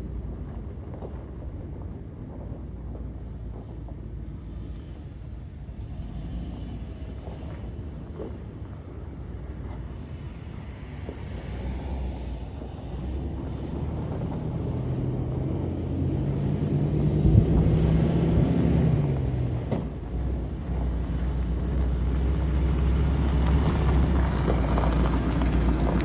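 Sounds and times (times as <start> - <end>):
truck engine: 0.0 - 26.0.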